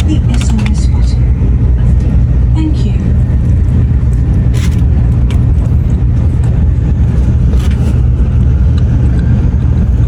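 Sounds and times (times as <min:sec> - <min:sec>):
train rumble inside cabin: 0:00.0 - 0:10.0.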